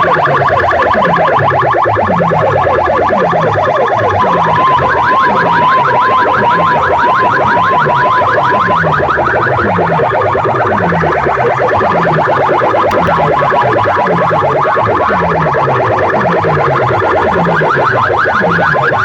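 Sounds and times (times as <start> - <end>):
warbling siren-like tone: 0.0 - 19.0.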